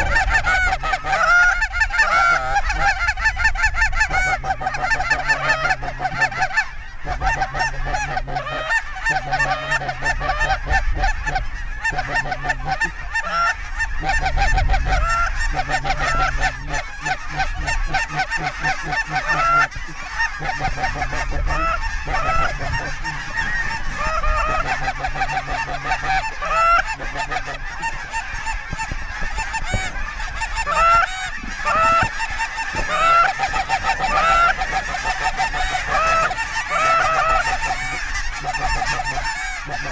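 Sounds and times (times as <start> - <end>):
flock of geese honking: 0.0 - 39.9.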